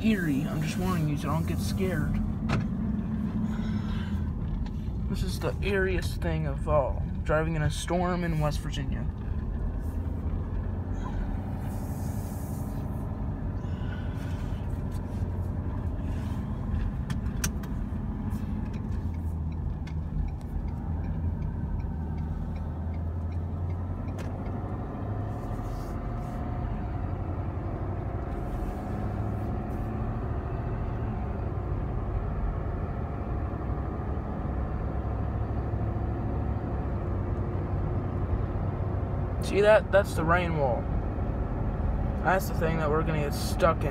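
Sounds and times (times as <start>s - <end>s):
truck engine and road rumble: 0.0s - 43.9s.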